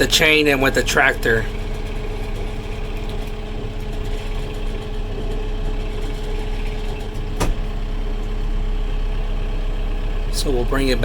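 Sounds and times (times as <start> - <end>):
diesel tractor engine humming: 0.0 - 11.0.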